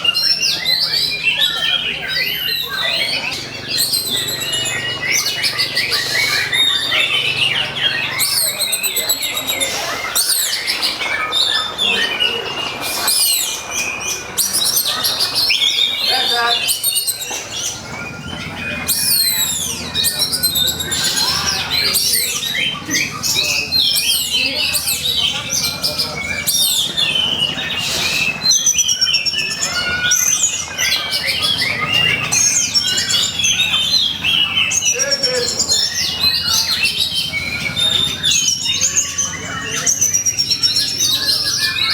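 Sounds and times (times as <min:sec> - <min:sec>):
songbird rapid whistles and trills: 0:00.0 - 0:41.9.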